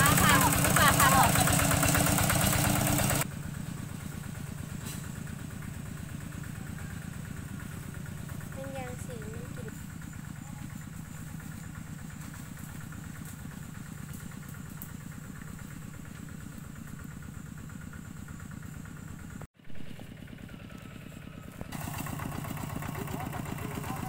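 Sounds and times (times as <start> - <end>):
walking tractor diesel engine running: 0.0 - 24.0.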